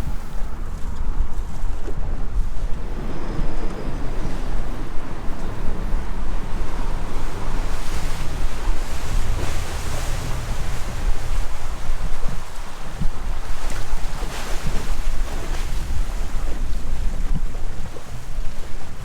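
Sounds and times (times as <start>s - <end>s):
water rushing around boat: 0.0s - 19.0s
wind buffeting microphone: 0.0s - 19.0s.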